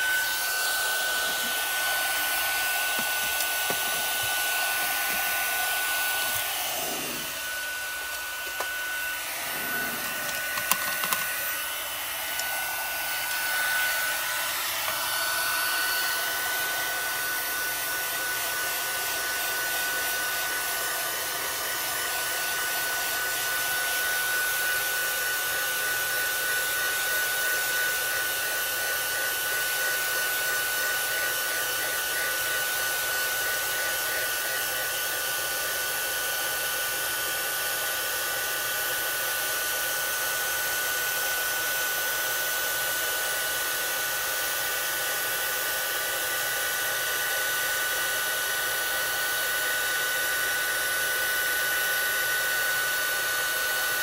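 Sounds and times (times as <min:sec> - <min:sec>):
heat tool blowing hot air: 0:00.0 - 0:54.0.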